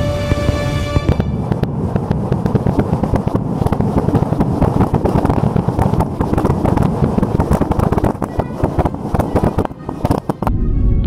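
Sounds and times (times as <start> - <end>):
fireworks cracking and banging: 0.0 - 10.6
heavy low rumble: 0.0 - 11.0.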